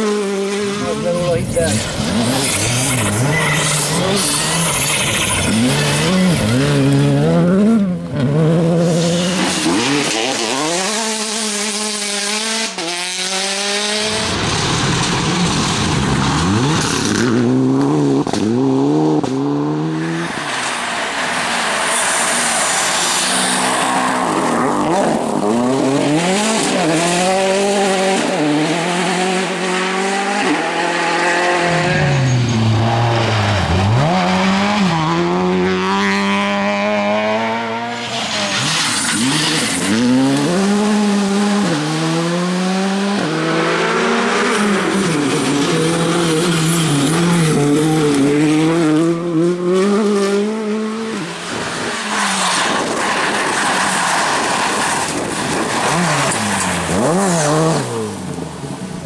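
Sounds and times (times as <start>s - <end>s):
gravel and tyre noise: 0.0s - 59.0s
rally car engines revving: 0.0s - 59.0s.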